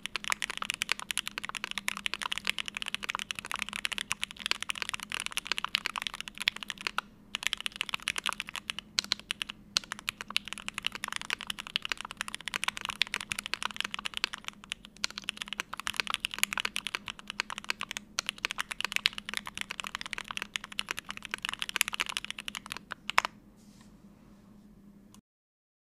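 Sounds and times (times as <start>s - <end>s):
mechanical keyboard typing: 0.0s - 23.3s.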